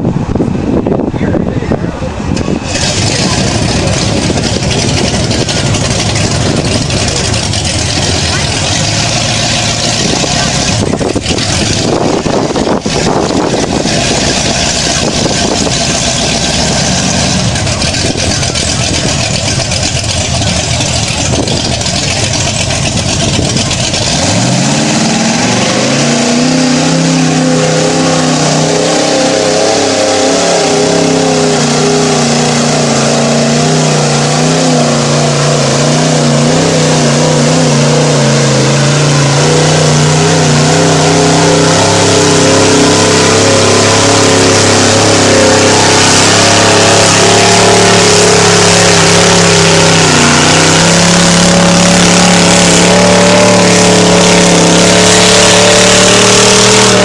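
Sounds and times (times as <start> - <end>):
steady rush of noise: 0.0 - 57.0
truck engine revving: 0.0 - 57.0.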